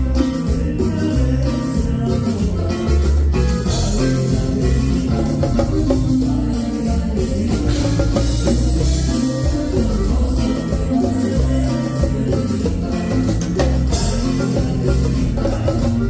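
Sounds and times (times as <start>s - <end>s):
bass guitar: 0.0s - 16.0s
drum kit: 0.0s - 16.0s
guitar: 0.0s - 16.0s
live band playing: 0.0s - 16.0s.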